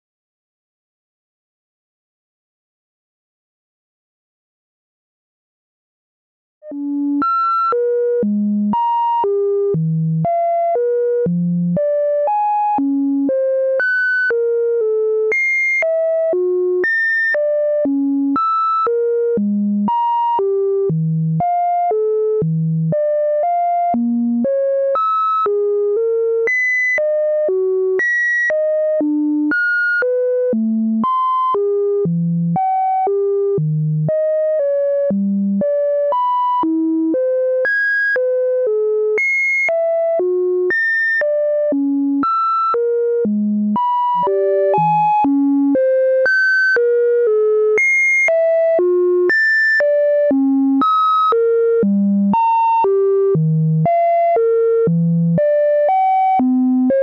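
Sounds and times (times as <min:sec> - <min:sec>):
sine-wave test tones: 0:06.6 - 0:57.0.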